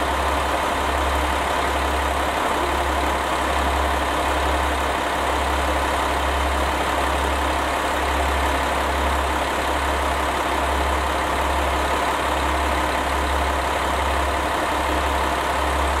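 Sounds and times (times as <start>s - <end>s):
large engine idling: 0.0s - 16.0s.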